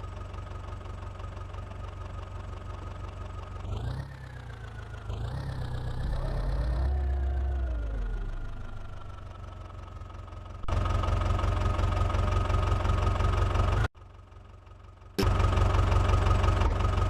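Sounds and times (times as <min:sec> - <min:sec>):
tractor diesel engine: 0:00.0 - 0:17.0.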